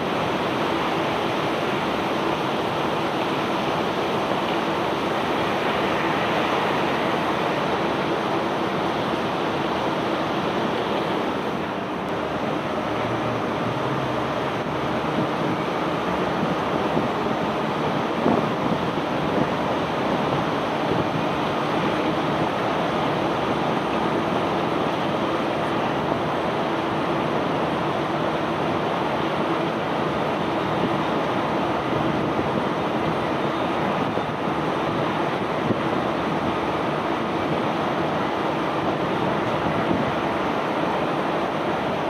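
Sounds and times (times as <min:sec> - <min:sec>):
unloading machinery rushing noise: 0:00.0 - 0:42.0.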